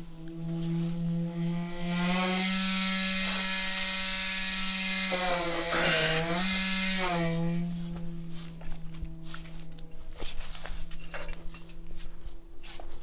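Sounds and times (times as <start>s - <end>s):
concrete vibrator humming: 0.0s - 13.0s.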